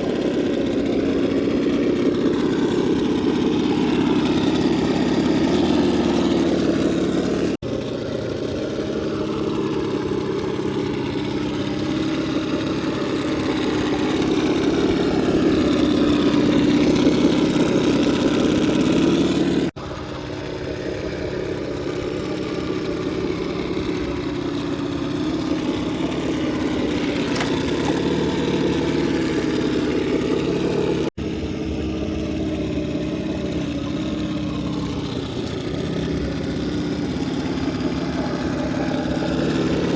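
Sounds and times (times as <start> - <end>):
rc crawler motor whining: 0.0 - 39.9.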